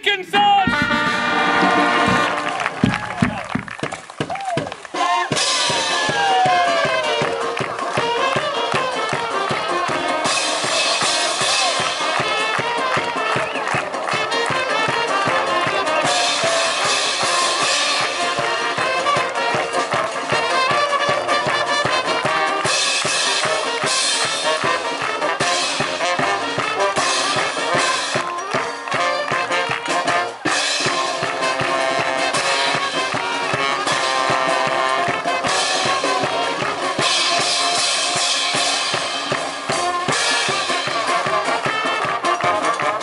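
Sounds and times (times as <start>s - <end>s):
brass band playing: 0.0s - 43.0s.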